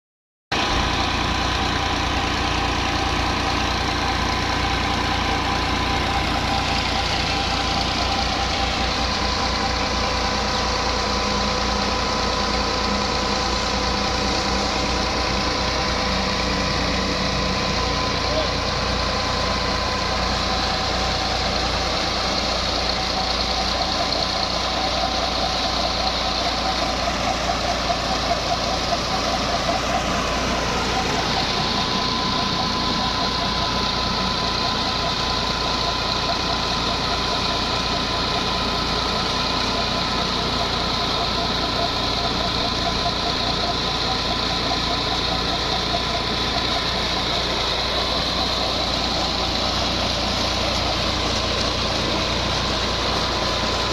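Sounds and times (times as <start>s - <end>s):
drilling rig machinery: 0.5s - 53.9s
tractor engine running: 0.5s - 53.9s.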